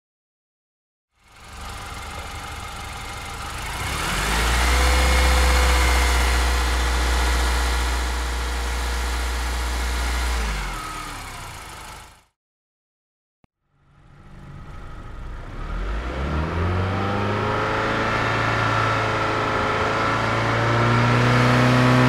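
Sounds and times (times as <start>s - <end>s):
car engine accelerating: 1.2s - 12.2s, 13.7s - 22.0s.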